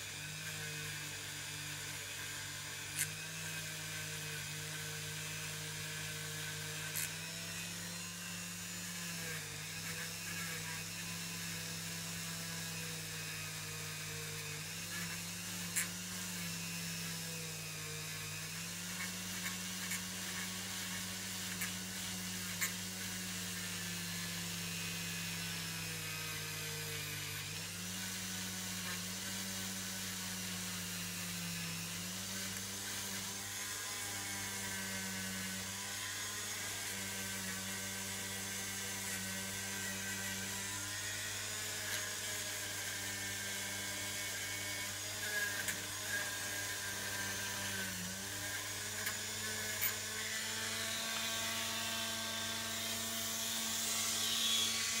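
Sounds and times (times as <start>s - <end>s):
rotary tool whining: 0.0s - 55.0s.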